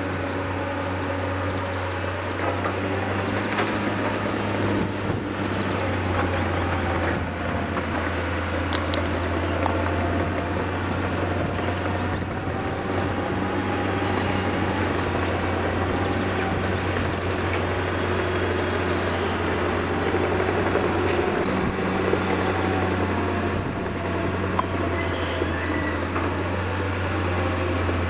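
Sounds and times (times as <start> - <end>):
diesel engines droning: 0.0 - 28.0.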